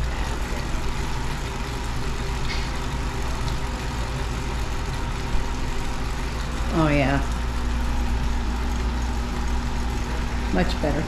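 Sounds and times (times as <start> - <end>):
bicycle trainer whirring: 0.0 - 11.0.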